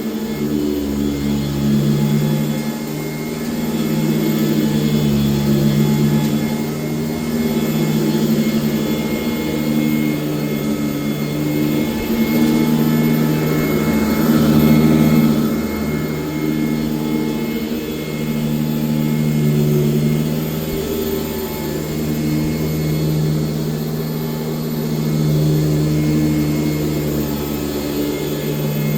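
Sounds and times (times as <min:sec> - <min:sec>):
upright vacuum cleaner running: 0:00.0 - 0:28.9.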